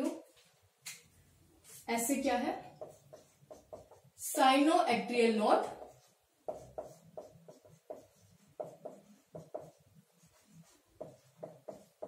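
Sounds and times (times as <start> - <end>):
marker writing on a whiteboard: 0.9 - 12.0.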